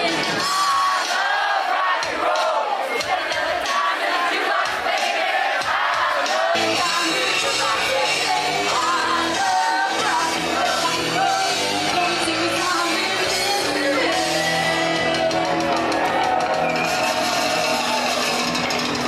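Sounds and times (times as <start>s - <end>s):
crowd shouting: 0.0s - 19.0s
music with singing: 0.0s - 19.0s.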